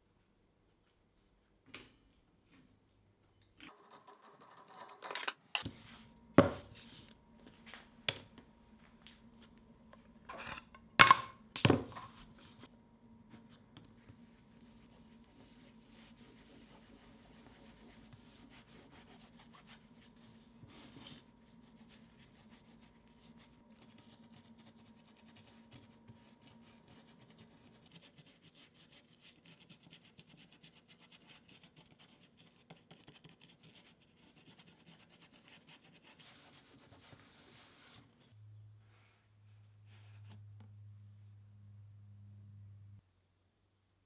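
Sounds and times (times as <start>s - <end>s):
low steady hum: 0.0s - 28.9s, 36.2s - 44.0s.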